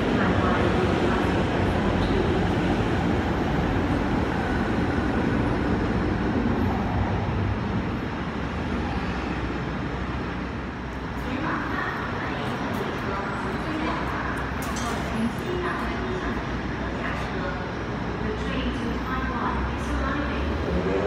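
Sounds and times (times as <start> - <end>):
train rumble and rail noise: 0.0 - 21.0.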